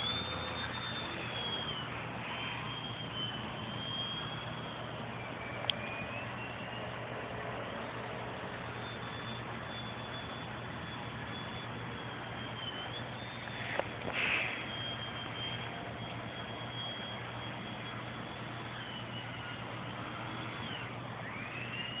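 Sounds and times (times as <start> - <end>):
electric motor propeller whining: 0.0 - 22.0.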